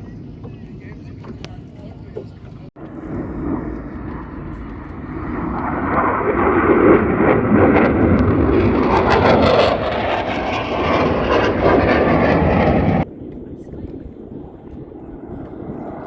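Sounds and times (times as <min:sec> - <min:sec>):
aircraft engine roar: 0:00.0 - 0:16.0.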